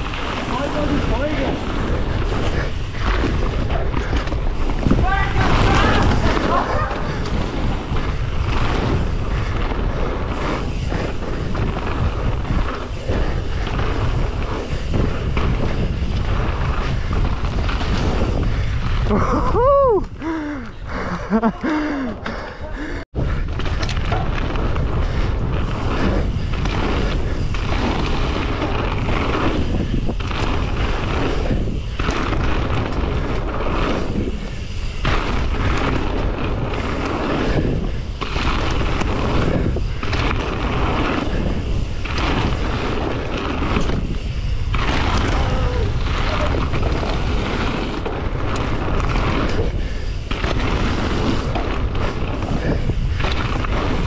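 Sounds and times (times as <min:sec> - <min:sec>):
bike rolling over gravel: 0:00.0 - 0:54.0
wind buffeting microphone: 0:00.0 - 0:54.0.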